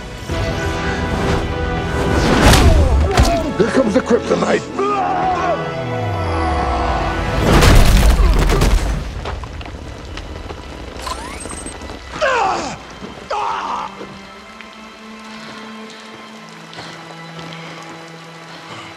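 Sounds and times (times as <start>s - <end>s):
dramatic film music: 0.0s - 18.9s.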